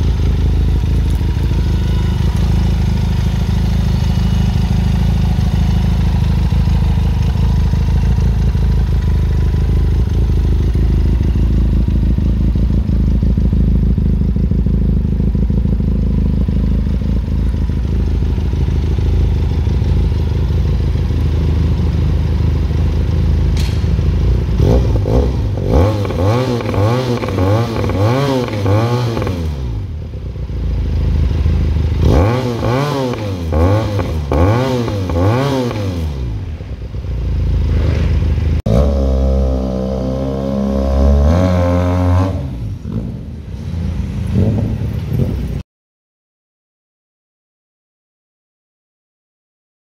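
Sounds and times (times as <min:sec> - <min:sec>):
motorcycle engine idling and revving: 0:00.0 - 0:45.6.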